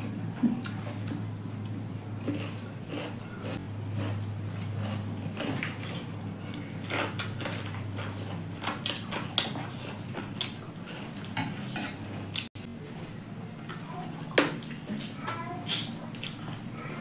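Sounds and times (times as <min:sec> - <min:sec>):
eating noises: 0:00.0 - 0:12.5, 0:13.6 - 0:17.0
low steady hum: 0:00.0 - 0:17.0.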